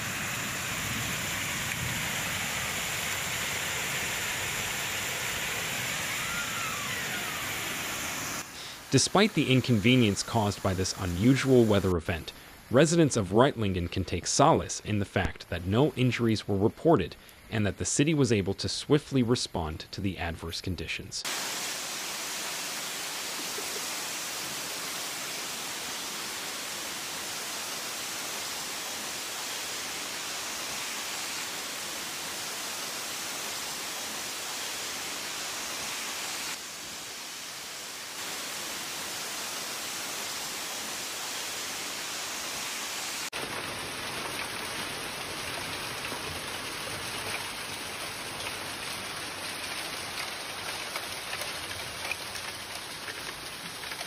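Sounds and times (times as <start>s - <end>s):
heavy rain and hail: 0.0s - 11.5s, 21.3s - 54.0s.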